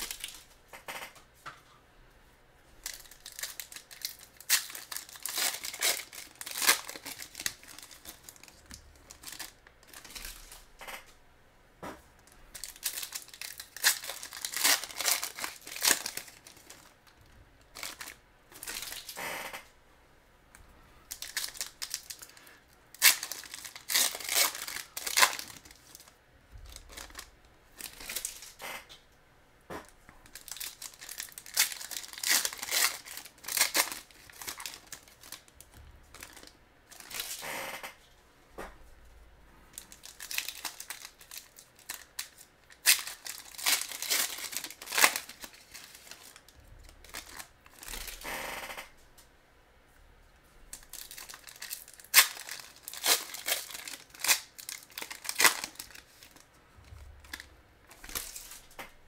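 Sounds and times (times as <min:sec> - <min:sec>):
foil packs crinkling: 0:00.0 - 0:01.0, 0:02.8 - 0:11.0, 0:12.3 - 0:19.5, 0:21.0 - 0:28.7, 0:30.2 - 0:37.6, 0:39.8 - 0:48.8, 0:50.7 - 0:58.8.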